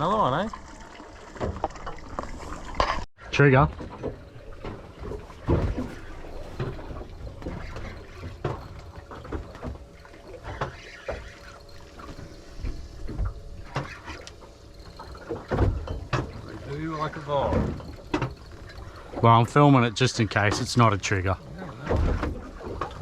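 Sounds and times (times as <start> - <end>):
water lapping against boat hull: 0.0 - 23.0
knocks and splashes: 0.4 - 23.0
faint steady hum: 3.7 - 23.0.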